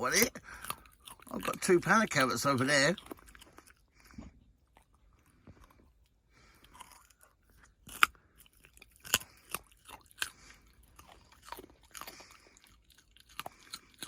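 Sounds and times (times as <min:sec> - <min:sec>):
puppy crunching a carrot: 0:00.0 - 0:14.0.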